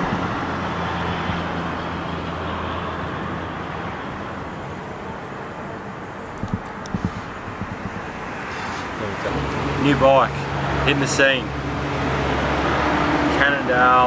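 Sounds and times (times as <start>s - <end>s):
road noise: 0.0s - 14.0s
vehicle engine hum: 0.0s - 14.0s.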